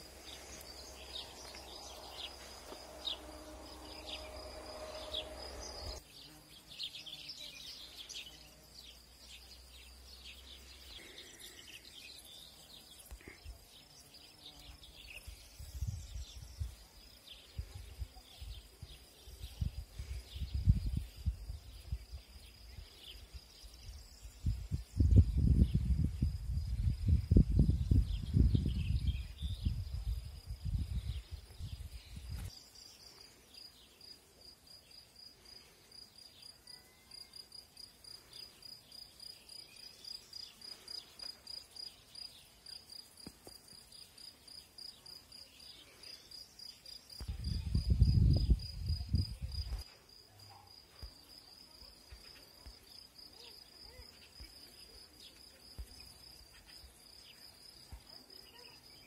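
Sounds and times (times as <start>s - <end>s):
insect chirping: 0.0s - 59.0s.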